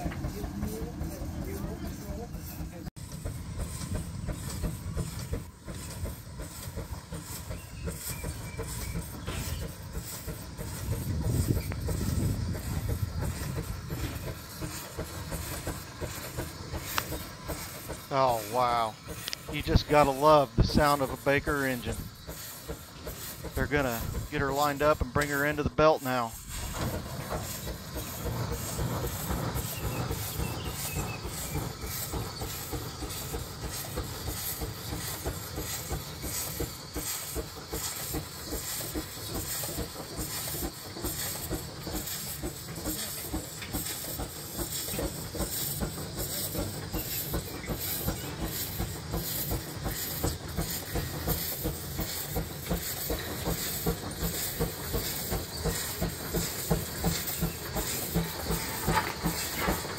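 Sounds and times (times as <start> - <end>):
steam engine exhaust chuffs: 0.0 - 59.9
steam hissing: 0.0 - 59.9.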